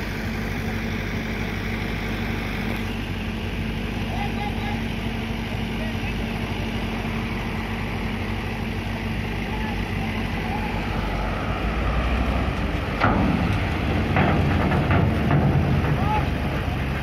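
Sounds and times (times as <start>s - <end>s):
diesel truck engines running: 0.0s - 17.0s.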